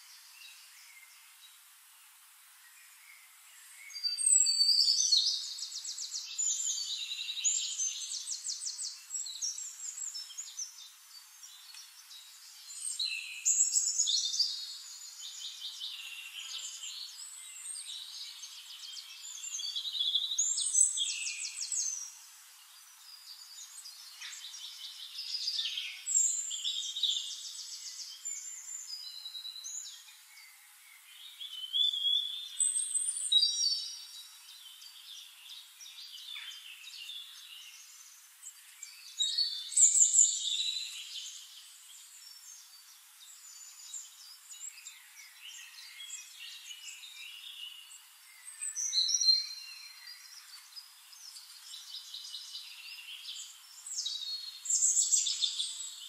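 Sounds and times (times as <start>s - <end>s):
songbird trilling and chirping: 3.6s - 56.0s.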